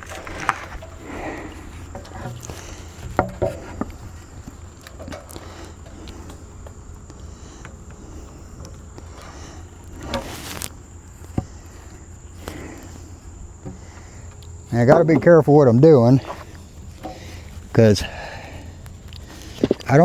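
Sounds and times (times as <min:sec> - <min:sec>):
insects chirping faintly: 0:00.0 - 0:20.0
log clattering: 0:00.0 - 0:20.0
log knocking and scraping: 0:00.0 - 0:20.0.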